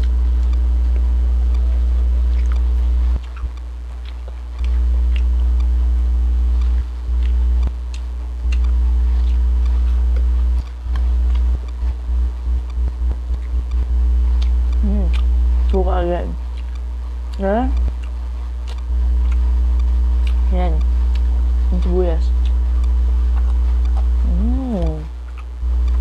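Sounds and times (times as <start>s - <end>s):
faint chewing: 0.0s - 5.7s, 6.5s - 15.8s, 16.4s - 26.0s
low electrical hum: 0.0s - 26.0s.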